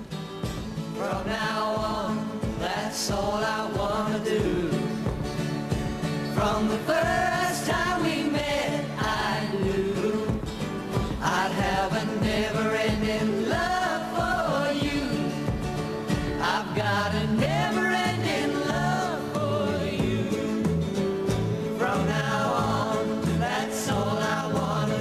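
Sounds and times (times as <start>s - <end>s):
song with melody and accompaniment: 0.0s - 25.0s.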